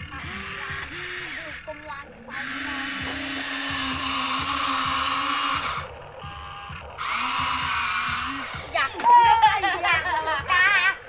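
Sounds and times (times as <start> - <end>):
electric motors whirring: 0.0 - 11.0.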